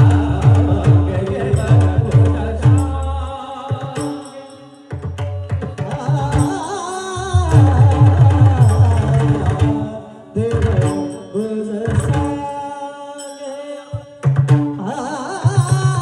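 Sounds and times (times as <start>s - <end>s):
devotional singing: 0.0s - 14.2s.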